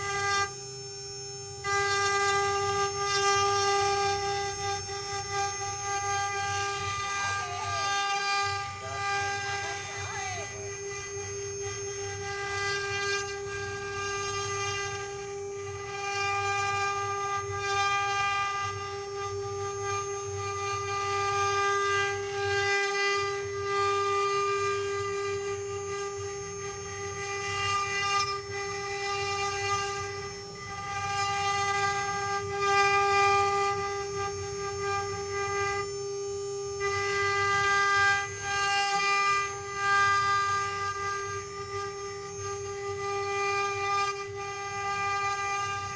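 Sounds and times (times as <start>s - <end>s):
spindles whining: 0.0s - 45.9s
wood cutting noise: 0.0s - 45.9s.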